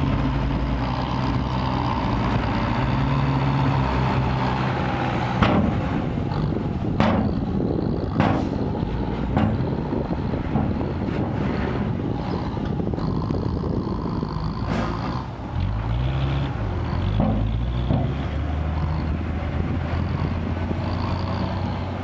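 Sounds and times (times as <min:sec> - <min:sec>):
truck diesel engine: 0:00.0 - 0:22.0.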